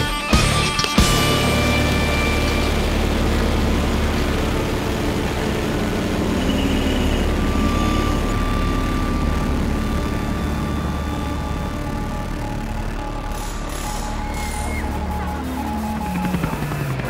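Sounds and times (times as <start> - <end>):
vehicle engine low drone: 0.5 - 17.0.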